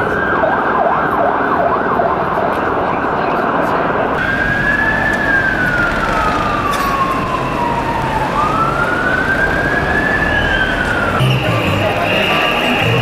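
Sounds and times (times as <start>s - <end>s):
emergency vehicle siren wailing: 0.0s - 13.0s
street noise: 0.0s - 13.0s.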